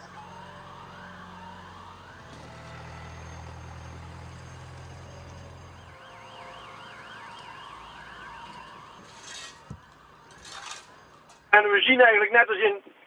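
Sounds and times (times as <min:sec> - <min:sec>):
fast warbling siren: 0:00.0 - 0:11.5
siren wailing: 0:00.0 - 0:11.8.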